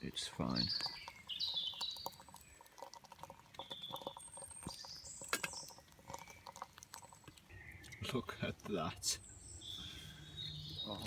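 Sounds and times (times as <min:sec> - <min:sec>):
birds whistling faintly: 0:00.4 - 0:02.8, 0:03.5 - 0:11.0.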